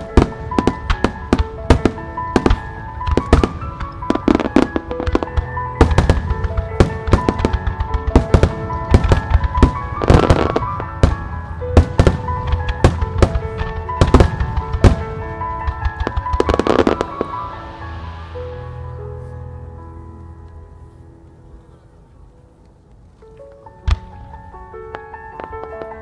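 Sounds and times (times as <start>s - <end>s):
music: 0.0s - 26.0s.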